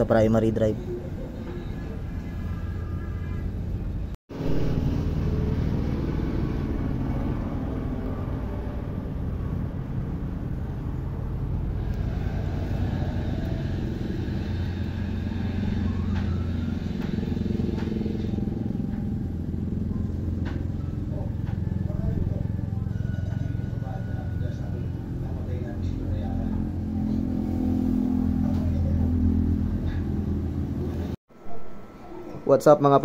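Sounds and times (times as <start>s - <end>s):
scooter engine droning: 0.9s - 31.2s.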